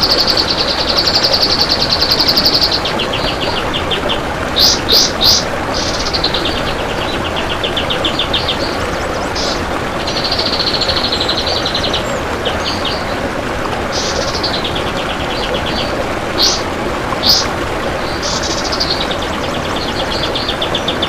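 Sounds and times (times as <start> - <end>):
bird singing rapid trills: 0.0 - 13.2, 13.9 - 21.0.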